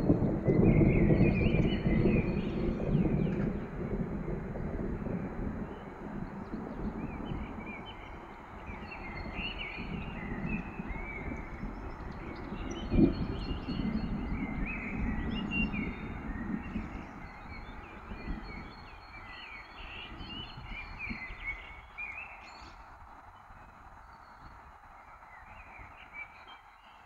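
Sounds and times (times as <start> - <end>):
distant thunder rumbling: 0.0 - 21.9
songbirds chirping: 0.0 - 27.0.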